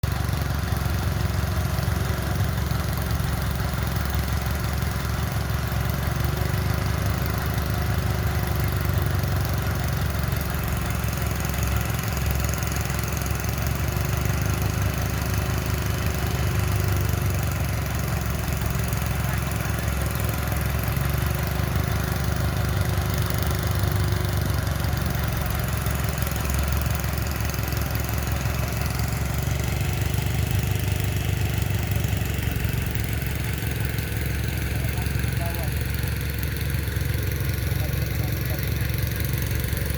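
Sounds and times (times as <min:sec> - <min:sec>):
heavy machinery engine droning: 0:00.0 - 0:39.9.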